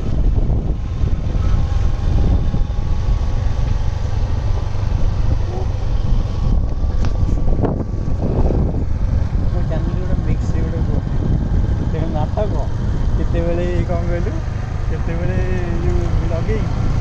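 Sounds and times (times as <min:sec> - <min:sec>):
vehicle engine on dirt track: 0:00.0 - 0:17.0
wind rumble on microphone: 0:00.0 - 0:17.0.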